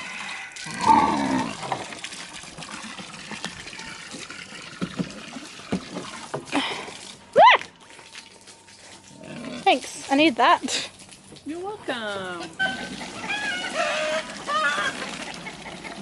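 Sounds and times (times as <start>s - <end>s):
water running from hose into trough: 0.0s - 16.0s.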